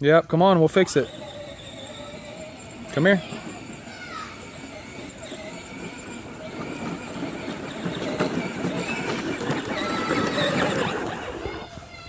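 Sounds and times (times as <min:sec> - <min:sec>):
ride-on toy tractor driving: 0:00.2 - 0:12.0.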